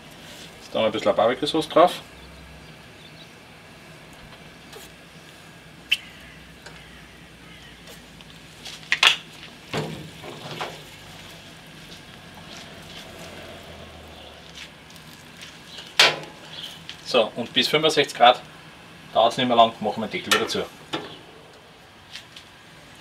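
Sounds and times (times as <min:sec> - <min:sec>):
gas grill sizzling: 0:00.0 - 0:23.0.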